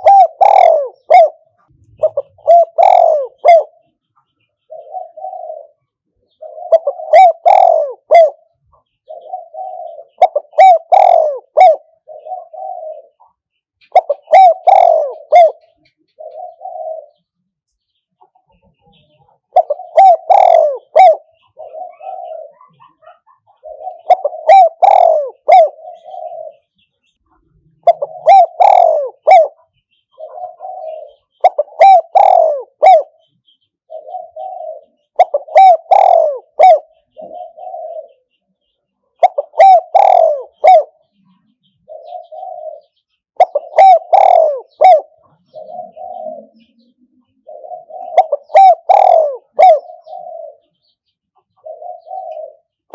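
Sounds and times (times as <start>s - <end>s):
dove cooing: 0.0s - 17.4s, 18.2s - 26.8s, 27.4s - 52.9s.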